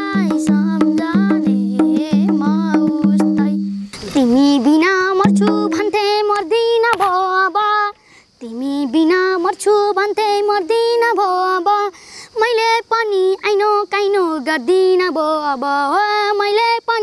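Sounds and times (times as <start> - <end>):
girl singing unaccompanied: 0.0 - 17.0.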